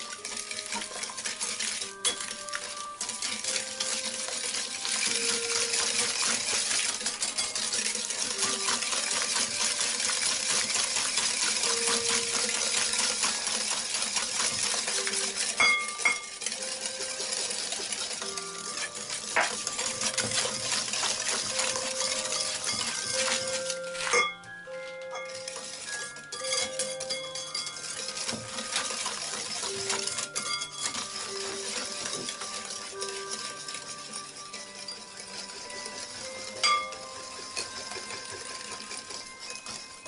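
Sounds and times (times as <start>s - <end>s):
whisk clinking on bowl: 0.0s - 40.0s.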